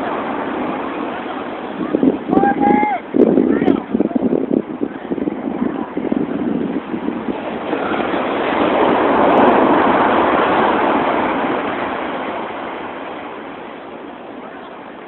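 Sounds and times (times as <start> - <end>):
heavy surf breaking: 0.0 - 15.0.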